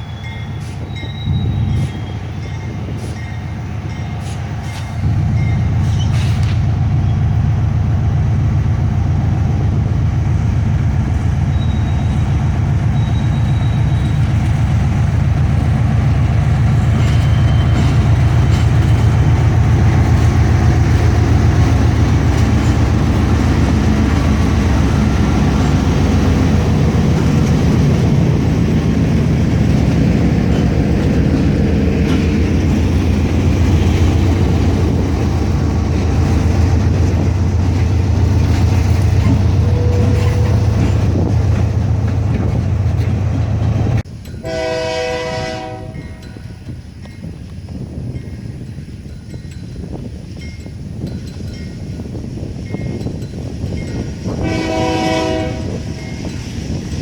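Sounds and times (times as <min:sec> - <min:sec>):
locomotive engine rumbling: 0:00.0 - 0:57.0.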